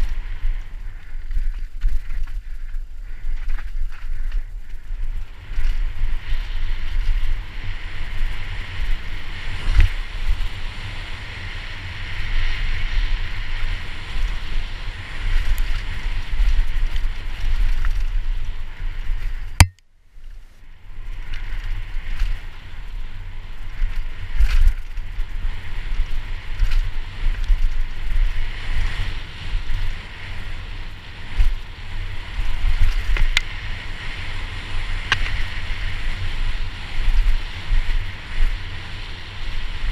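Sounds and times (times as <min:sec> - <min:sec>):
bike tyres and frame rattling: 0:00.0 - 0:39.9.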